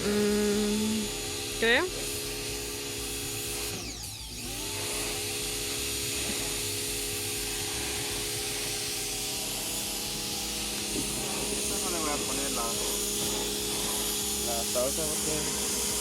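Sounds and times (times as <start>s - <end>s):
small motor droning: 0.0s - 16.0s.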